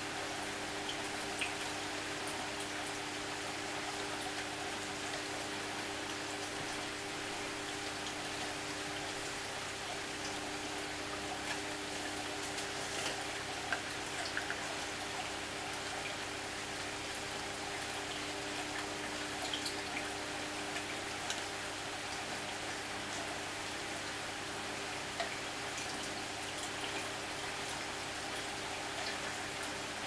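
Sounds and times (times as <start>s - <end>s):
aquarium water trickling: 0.0s - 30.0s
water drips: 0.5s - 24.2s, 25.0s - 30.0s.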